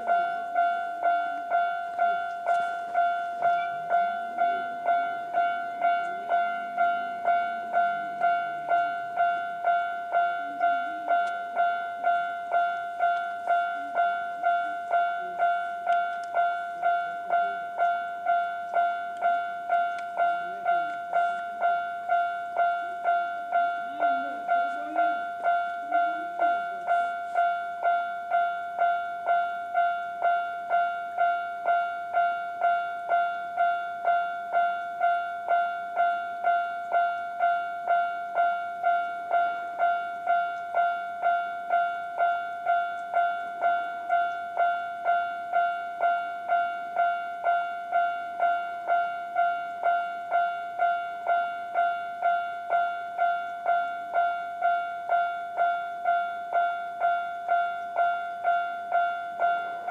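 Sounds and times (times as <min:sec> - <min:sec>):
level crossing warning bell: 0:00.0 - 0:59.9.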